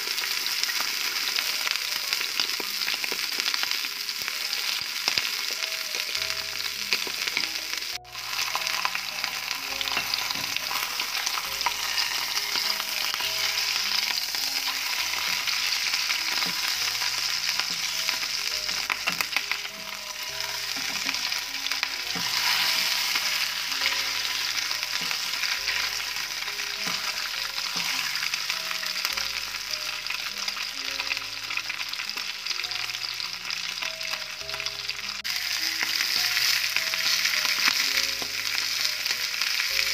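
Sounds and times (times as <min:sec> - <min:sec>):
liver frying in hot oil: 0:00.0 - 0:39.9
soft background music: 0:00.0 - 0:39.9.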